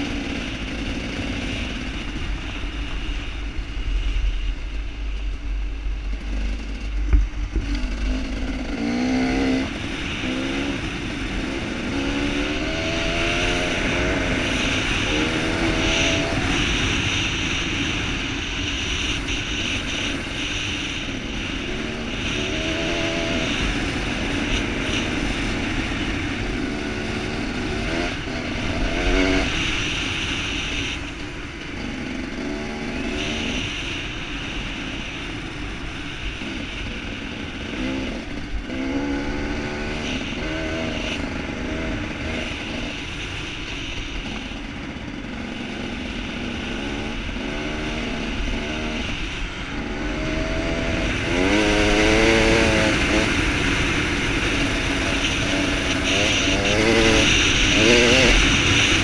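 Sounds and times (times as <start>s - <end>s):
dirt bike engine accelerating: 0.0s - 59.0s.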